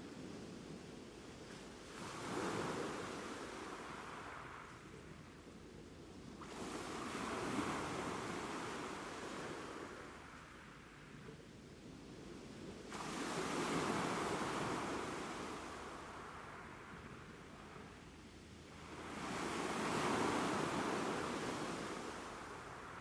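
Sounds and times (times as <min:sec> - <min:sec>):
ocean waves washing in: 0:01.7 - 0:05.6, 0:06.3 - 0:11.2, 0:12.8 - 0:23.0.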